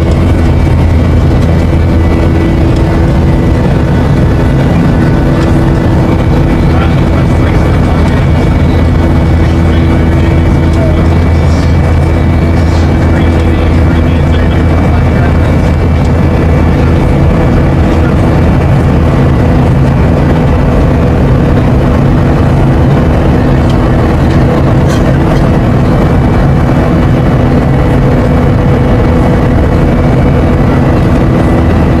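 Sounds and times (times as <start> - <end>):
jet engines rumbling in cabin: 0.0 - 32.0.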